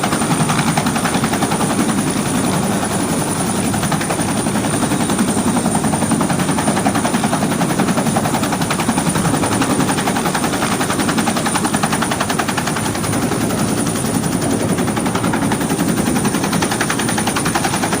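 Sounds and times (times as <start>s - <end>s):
helicopter high whine: 0.0s - 18.0s
helicopter rotor chop: 0.0s - 18.0s.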